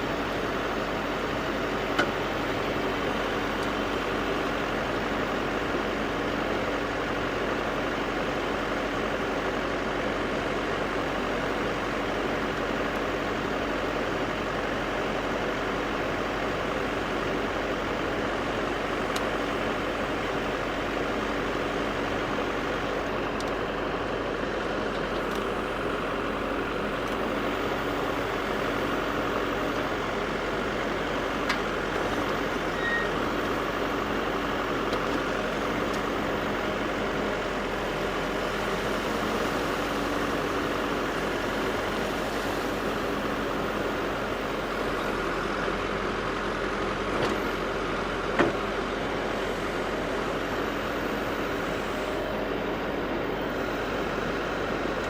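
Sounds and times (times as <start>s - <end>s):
backhoe diesel engine running: 0.0s - 55.0s.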